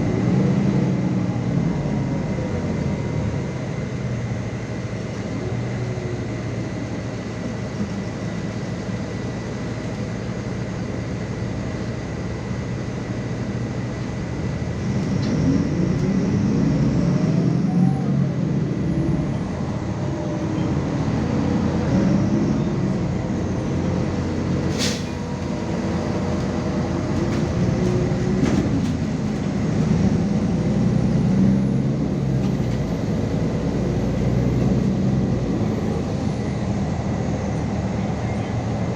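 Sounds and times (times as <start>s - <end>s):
bus engine and road noise: 0.0s - 38.9s.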